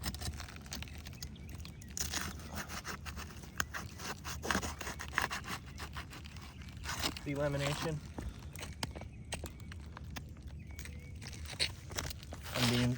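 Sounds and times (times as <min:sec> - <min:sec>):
roof shingles scraping and crackling: 0:00.0 - 0:12.9.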